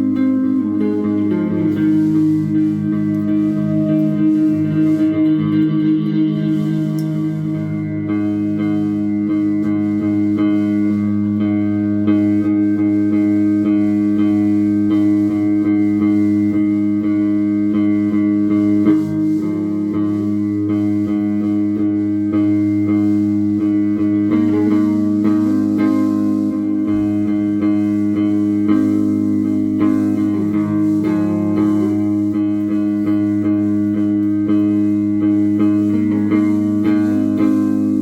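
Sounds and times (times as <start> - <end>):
held chords: 0.0 - 38.0
plucked guitar notes: 0.0 - 38.0.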